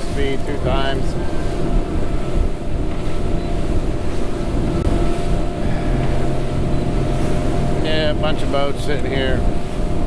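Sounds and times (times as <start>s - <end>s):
boat motor running: 0.0s - 10.0s
water rushing past hull: 0.0s - 10.0s
wind buffeting microphone: 0.0s - 10.0s.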